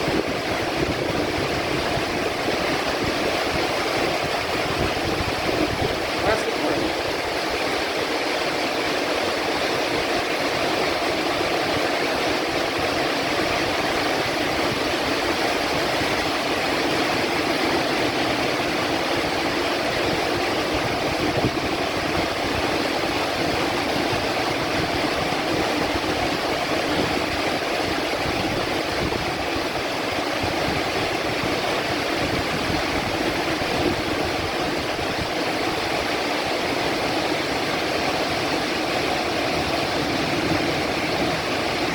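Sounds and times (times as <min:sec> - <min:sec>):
heavy rain downpour: 0:00.0 - 0:41.9.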